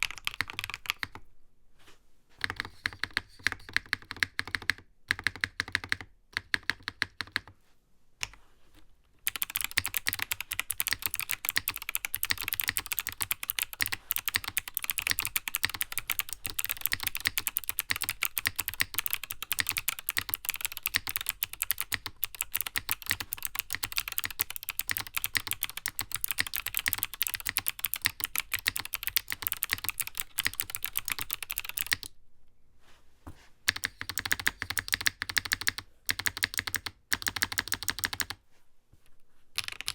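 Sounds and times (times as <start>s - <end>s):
mechanical keyboard typing: 0.0s - 1.2s, 2.4s - 7.5s, 9.2s - 32.1s, 33.7s - 38.4s, 39.6s - 39.9s.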